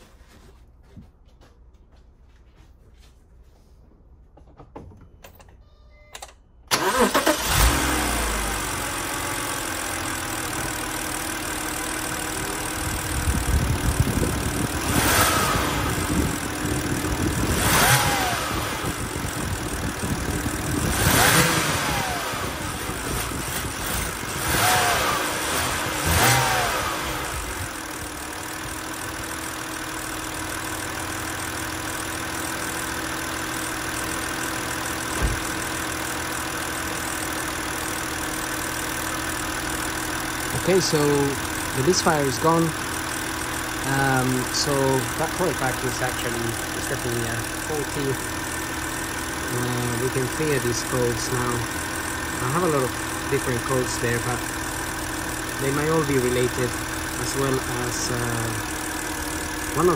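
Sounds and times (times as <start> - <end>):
car engine starting: 6.6 - 59.9
car engine idling and revving: 6.7 - 59.9.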